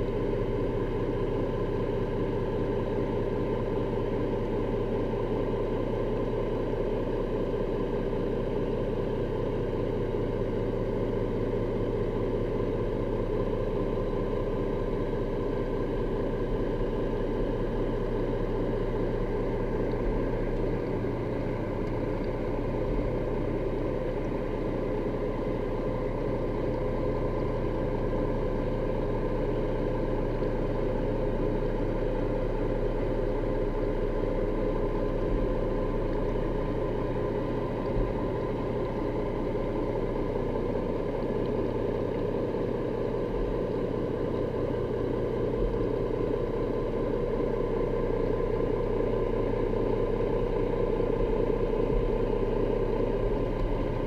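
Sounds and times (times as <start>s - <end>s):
boat motor heard underwater: 0.0s - 54.0s.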